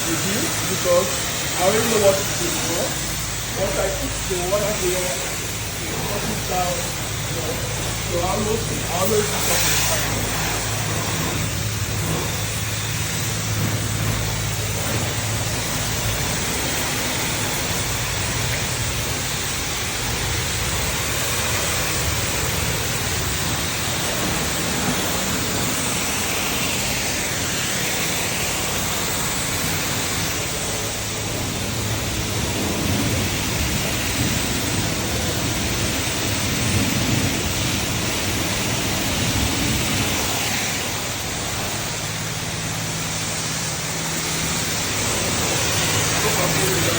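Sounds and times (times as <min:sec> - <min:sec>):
high-pressure water spray: 0:00.0 - 0:46.9
low pump hum: 0:00.0 - 0:46.9.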